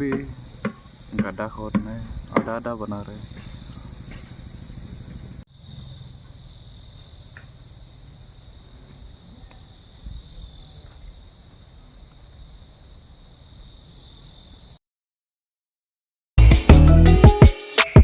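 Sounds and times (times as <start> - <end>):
insects chirring: 0.0 - 14.8.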